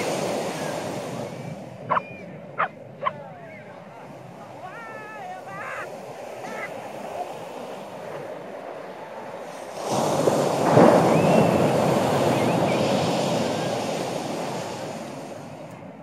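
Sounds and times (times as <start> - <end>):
sea wave breaking on shore: 0.0 - 2.1, 3.8 - 15.7.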